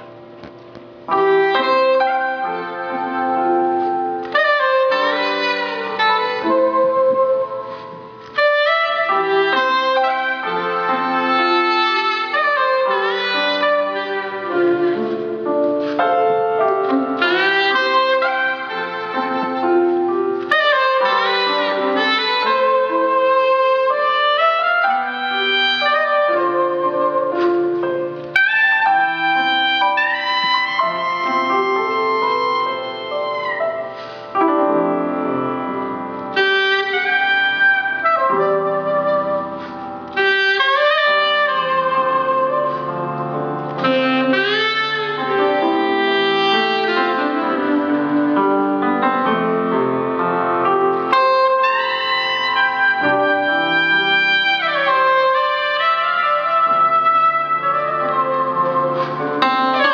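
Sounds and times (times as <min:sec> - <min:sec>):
piano chords: 0:00.0 - 0:59.9
soprano saxophone melody: 0:01.0 - 0:59.9.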